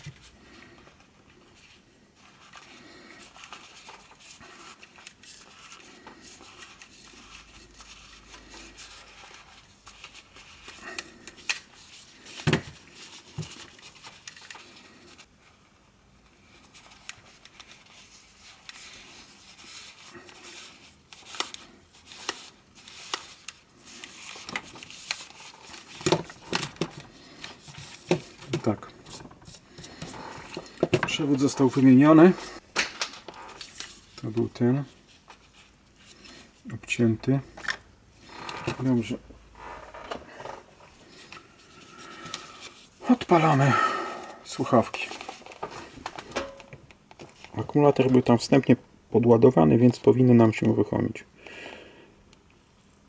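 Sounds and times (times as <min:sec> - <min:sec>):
headphone ear pads rustling: 0:00.0 - 0:48.5.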